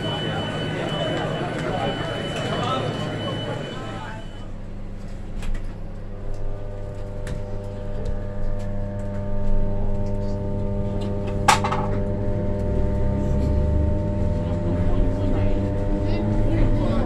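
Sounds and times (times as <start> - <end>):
train electrical hum: 0.0 - 17.0.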